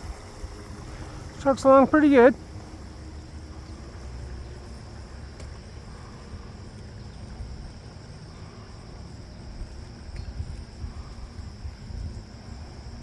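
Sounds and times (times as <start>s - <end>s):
high insect drone: 0.0s - 13.0s
wind buffeting microphone: 0.0s - 13.0s.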